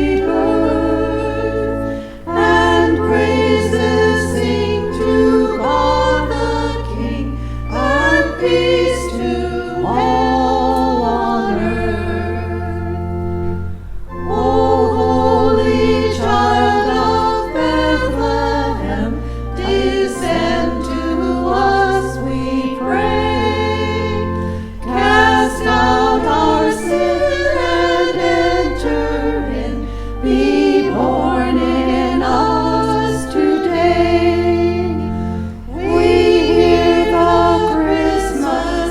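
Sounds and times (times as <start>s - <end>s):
church choir singing in harmony: 0.0s - 38.9s
low bass accompaniment notes: 0.0s - 38.9s.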